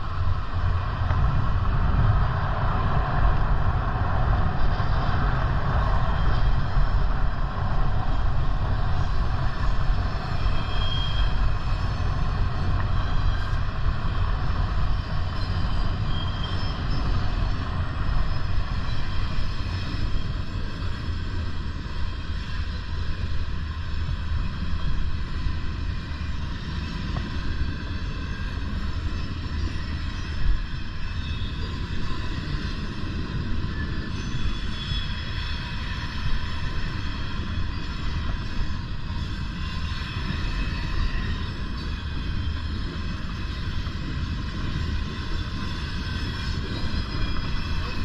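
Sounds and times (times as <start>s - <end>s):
wind rumble on microphone: 0.0s - 48.0s.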